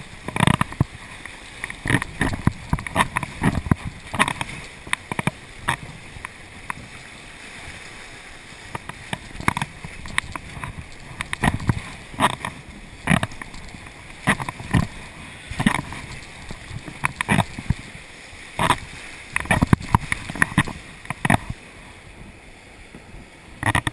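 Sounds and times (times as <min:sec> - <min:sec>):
whitewater rapids rushing: 0:00.0 - 0:22.2
paddle splashes: 0:00.0 - 0:23.9.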